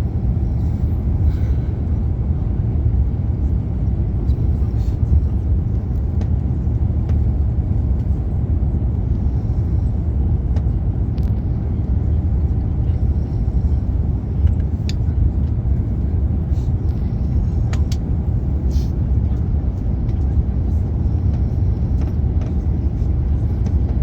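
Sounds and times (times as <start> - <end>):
vehicle rumble from inside: 0.0 - 24.0.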